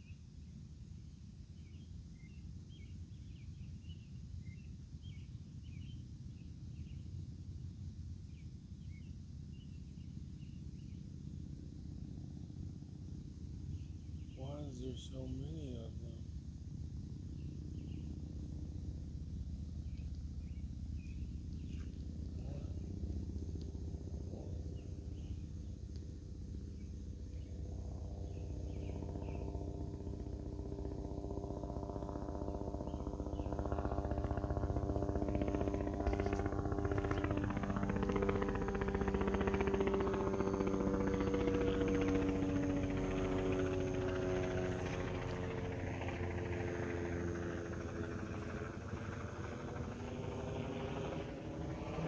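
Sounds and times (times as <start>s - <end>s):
aircraft droning overhead: 1.5s - 52.0s.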